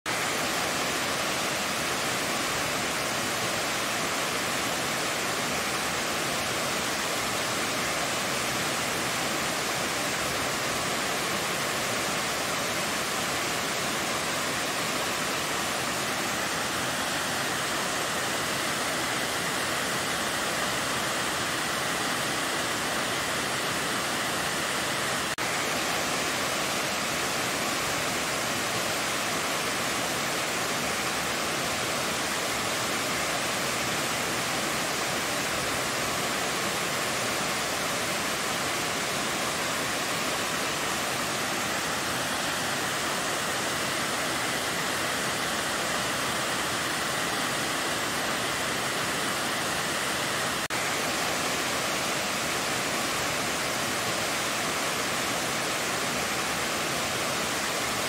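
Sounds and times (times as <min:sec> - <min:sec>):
waterfall rushing: 0:00.1 - 0:58.0.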